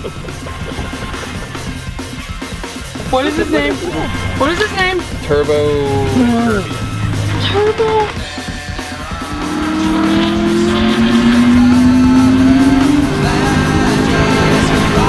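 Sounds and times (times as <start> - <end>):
car engine accelerating: 0.0 - 15.0
music playing: 0.0 - 15.0.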